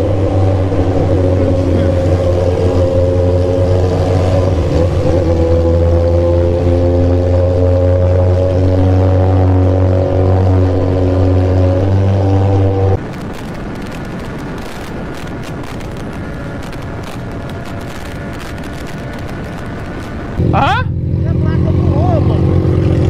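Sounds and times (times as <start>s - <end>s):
motorcycle engine in tunnel: 0.0s - 13.0s, 16.2s - 23.0s
wind rush at highway speed: 0.0s - 23.0s.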